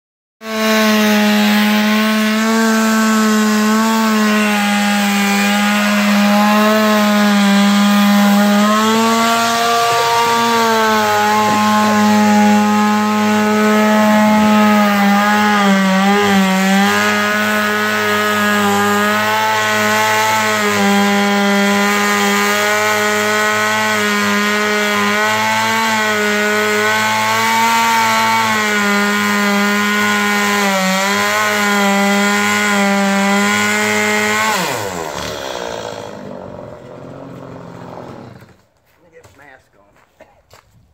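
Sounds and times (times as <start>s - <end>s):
chainsaw cutting tree trunk: 0.4s - 38.7s.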